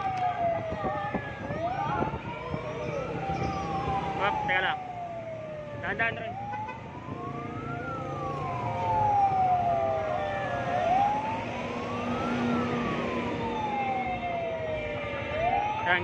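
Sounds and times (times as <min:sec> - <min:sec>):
road traffic: 0:00.0 - 0:16.0
siren wailing: 0:00.0 - 0:16.0.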